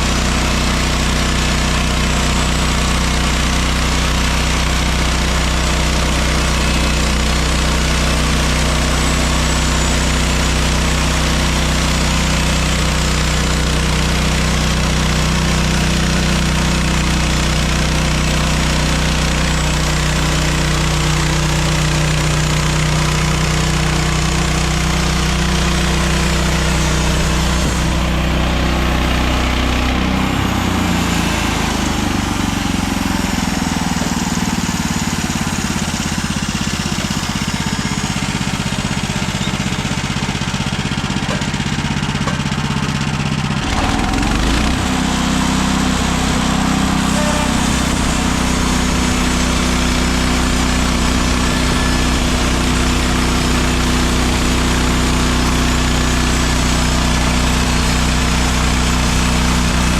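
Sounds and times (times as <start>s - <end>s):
blade sawing through log: 0.0s - 41.6s, 43.5s - 59.9s
sawmill engine running under load: 0.0s - 59.9s.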